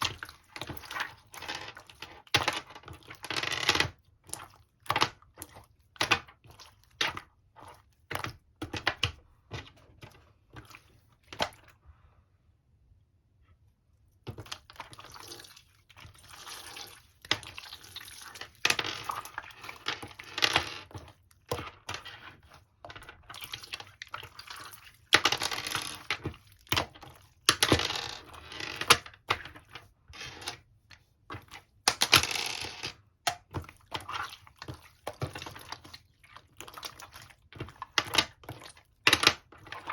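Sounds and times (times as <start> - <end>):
slime squishing: 0.0 - 11.9, 14.1 - 27.6, 28.2 - 32.0, 32.7 - 39.9.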